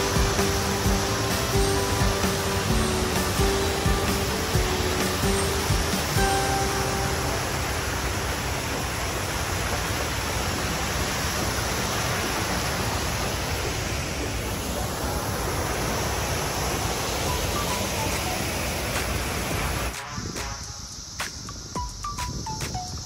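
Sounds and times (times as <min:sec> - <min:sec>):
fountain water splashing into pool: 0:00.0 - 0:20.2.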